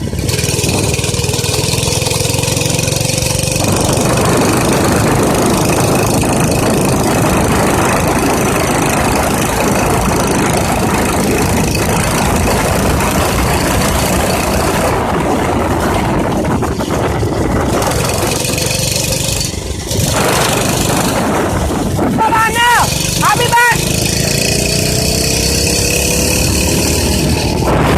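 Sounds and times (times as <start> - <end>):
minibike engine running: 0.0 - 27.9.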